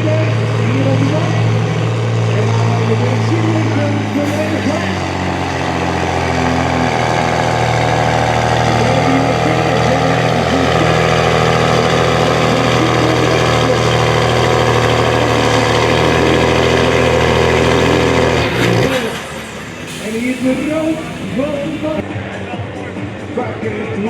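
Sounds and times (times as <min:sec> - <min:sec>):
truck engine running loud: 0:00.0 - 0:24.0.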